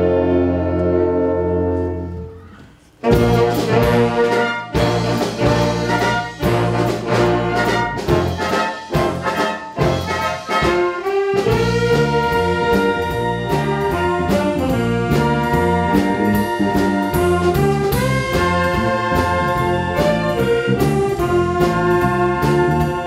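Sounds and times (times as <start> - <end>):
wind orchestra playing: 0.0 - 23.0.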